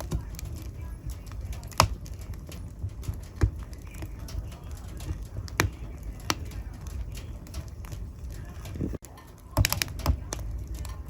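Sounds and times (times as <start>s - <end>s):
sharp pops of fire: 0.0s - 11.0s
wood fire crackling: 0.0s - 11.0s.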